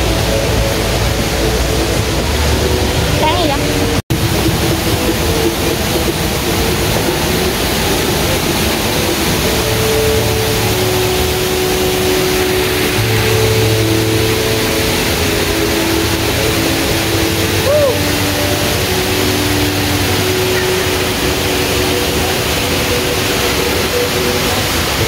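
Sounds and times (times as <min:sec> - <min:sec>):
indoor waterfall rushing: 0:00.0 - 0:25.0
music of long held notes: 0:00.0 - 0:25.0.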